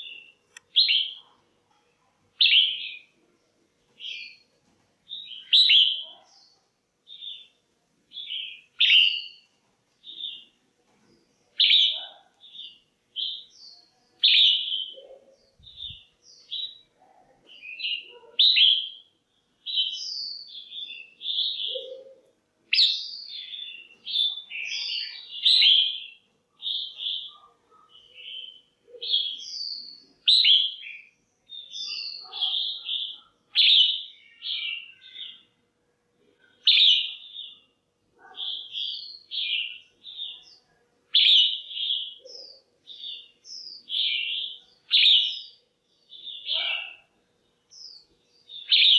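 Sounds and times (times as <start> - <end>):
bird chirping: 0.0 - 1.4, 2.4 - 35.6, 36.4 - 48.9.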